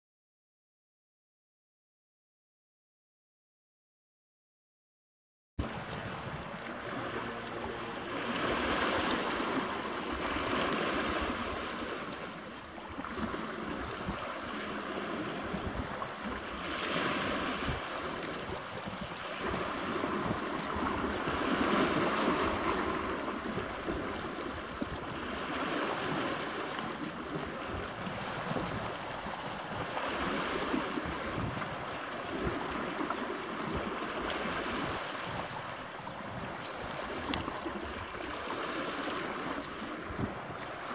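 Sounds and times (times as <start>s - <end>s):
sea water lapping: 5.6s - 40.9s
wind noise on microphone: 5.6s - 40.9s.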